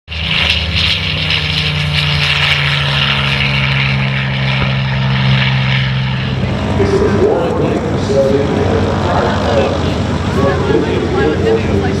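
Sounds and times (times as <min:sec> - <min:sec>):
propeller aircraft engine running: 0:00.1 - 0:12.0.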